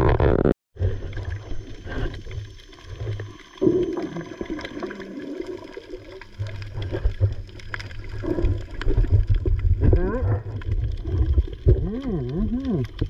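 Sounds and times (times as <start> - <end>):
bubbling: 0.0 - 13.0
muffled underwater rumble: 0.0 - 13.0.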